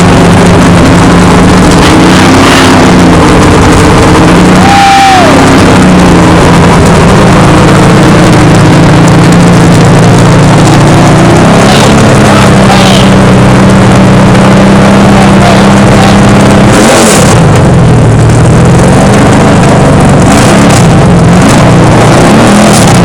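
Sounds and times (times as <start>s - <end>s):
loud engine idling: 0.0s - 23.0s.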